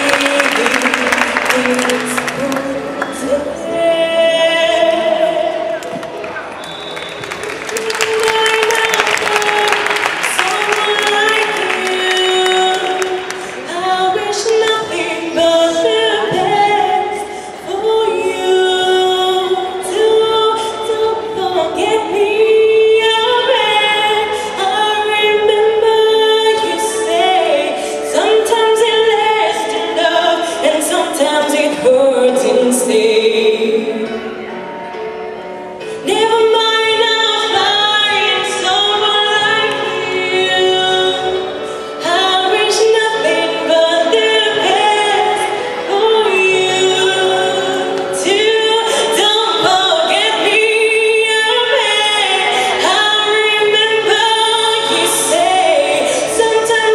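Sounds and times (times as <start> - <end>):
woman singing with vibrato: 0.0 - 6.0, 7.5 - 34.4, 35.8 - 56.9.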